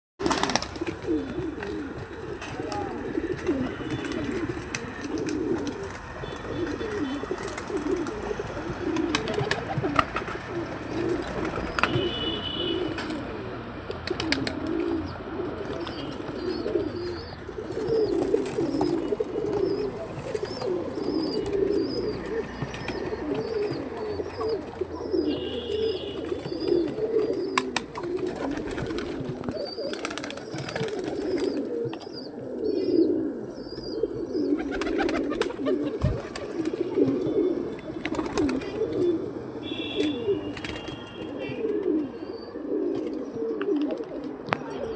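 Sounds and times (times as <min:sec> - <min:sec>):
pigeons cooing: 0:00.2 - 0:44.9.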